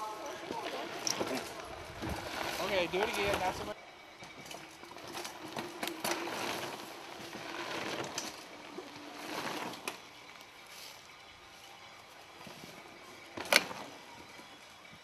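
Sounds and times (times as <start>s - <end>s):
bike tyres crunching on dirt: 0.0s - 14.6s
bike clicks and rattles: 0.2s - 10.8s, 12.4s - 15.0s.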